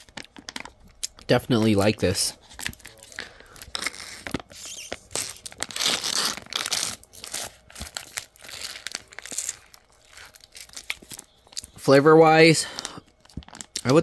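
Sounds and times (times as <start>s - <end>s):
foil pouch crinkling: 0.0s - 14.0s.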